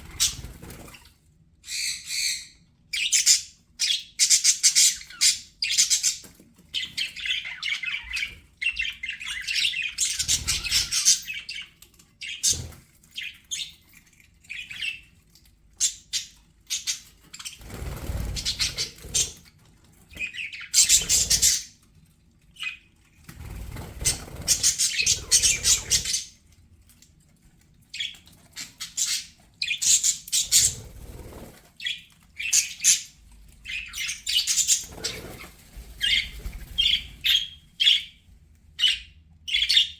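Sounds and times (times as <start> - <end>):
budgerigars chirping and warbling: 0.0 - 1.0, 1.6 - 19.4, 20.1 - 21.9, 22.6 - 26.4, 27.9 - 38.2, 38.8 - 39.9.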